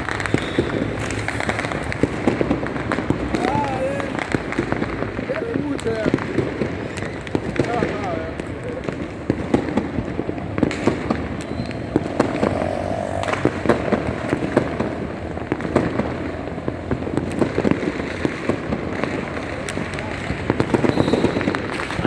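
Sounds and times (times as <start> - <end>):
fireworks bangs and pops: 0.0 - 12.2, 15.5 - 22.0
firecracker crackle: 0.0 - 22.0.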